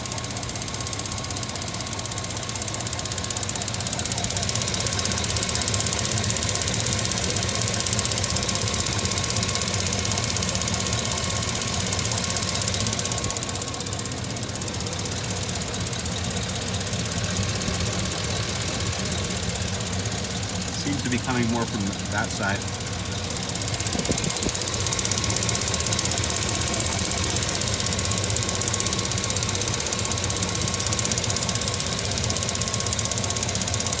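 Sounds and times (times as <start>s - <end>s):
truck engine idling with ticking: 0.0s - 34.0s.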